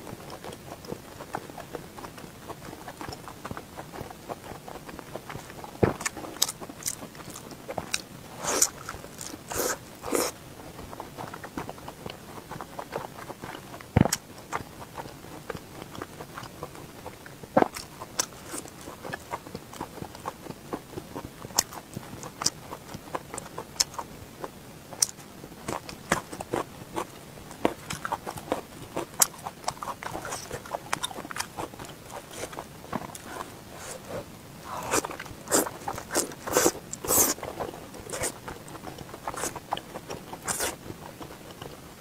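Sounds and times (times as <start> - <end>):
person chewing with wet smacks: 0.2 - 41.8.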